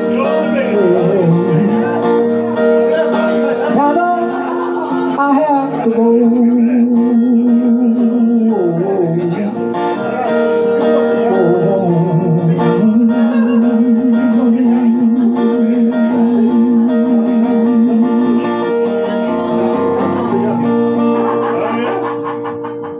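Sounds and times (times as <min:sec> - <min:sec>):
man singing: 0:00.0 - 0:20.9
strummed acoustic guitar: 0:00.0 - 0:22.9.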